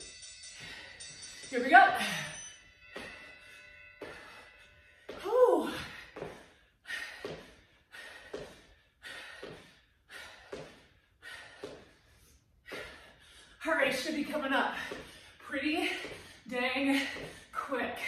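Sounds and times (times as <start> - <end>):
woman breathing forcefully: 0.0 - 3.4, 4.0 - 13.6, 14.6 - 17.6.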